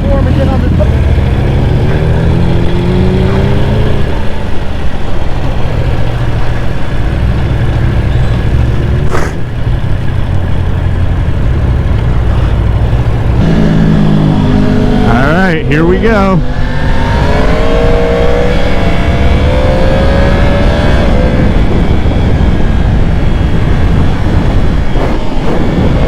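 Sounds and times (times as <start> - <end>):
motorcycle engines running loudly: 0.0 - 26.0.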